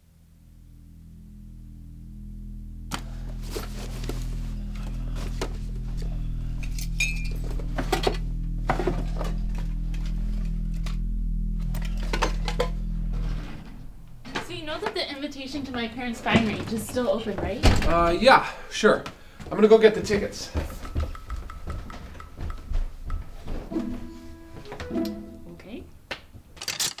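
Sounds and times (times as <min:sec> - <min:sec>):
background music low notes: 0:00.0 - 0:18.4, 0:19.6 - 0:26.2.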